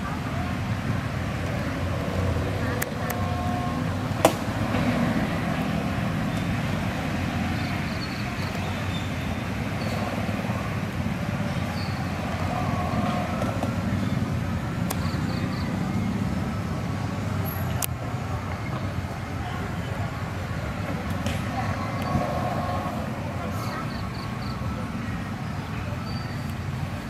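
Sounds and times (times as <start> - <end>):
distant road traffic: 0.0 - 27.0.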